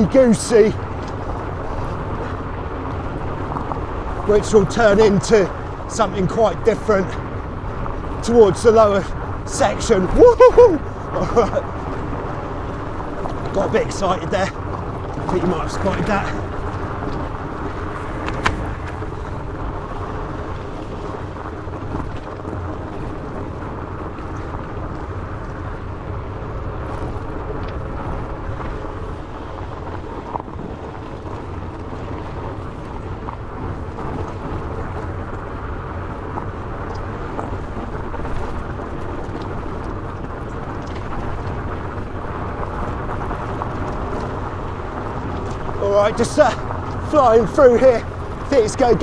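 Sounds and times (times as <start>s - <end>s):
bike tyres rolling on gravel: 0.2s - 49.0s.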